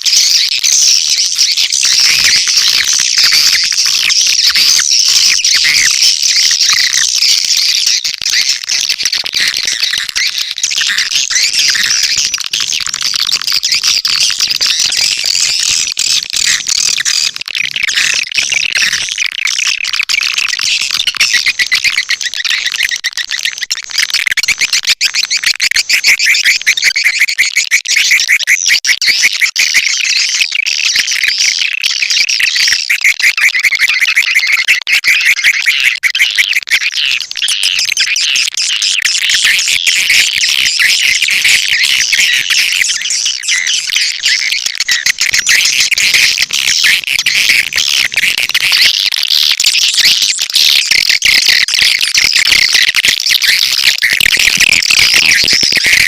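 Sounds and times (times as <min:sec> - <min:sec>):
swiftlets twittering and chirping: 0:00.0 - 0:56.0.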